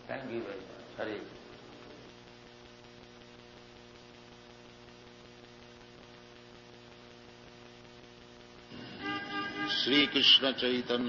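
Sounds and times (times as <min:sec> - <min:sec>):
electrical mains hum: 0:00.0 - 0:11.0
faint recording hiss: 0:00.0 - 0:11.0.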